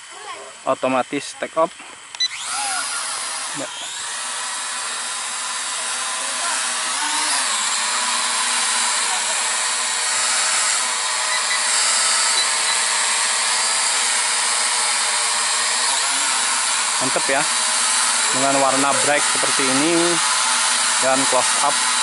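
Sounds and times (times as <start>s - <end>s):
toy drone motors whining: 0.0s - 22.0s.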